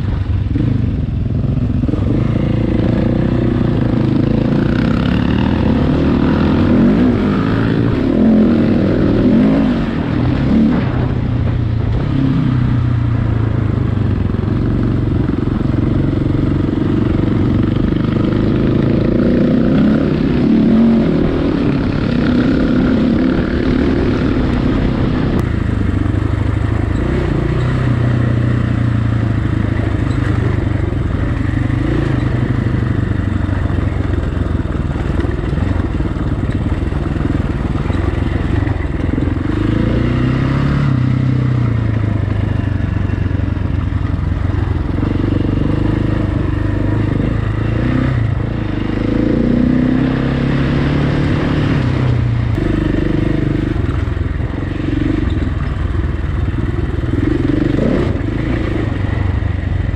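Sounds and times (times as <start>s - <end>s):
motorcycle engine revving under load: 0.0s - 59.9s
wind and road noise: 0.0s - 59.9s.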